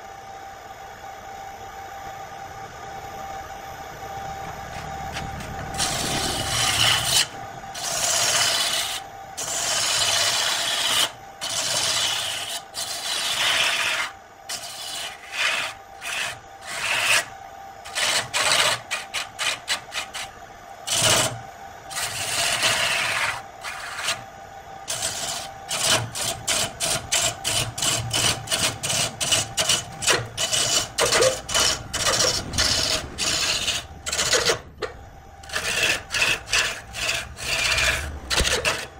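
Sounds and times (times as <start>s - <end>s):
lathe hum: 0.0s - 38.9s
lathe gouge scraping wood: 4.7s - 20.3s, 20.9s - 24.2s, 24.9s - 38.9s.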